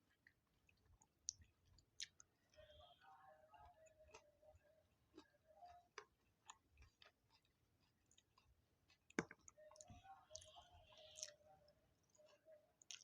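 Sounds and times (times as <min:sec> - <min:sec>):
chewing mouth noises: 0:00.0 - 0:02.9, 0:03.6 - 0:11.4, 0:12.0 - 0:13.0
small eating clicks: 0:00.0 - 0:13.0.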